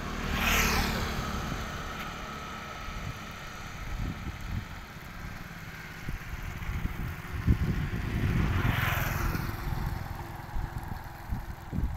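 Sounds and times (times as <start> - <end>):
low engine rumble: 0.0 - 11.9
small engine vehicle passing: 0.0 - 11.9.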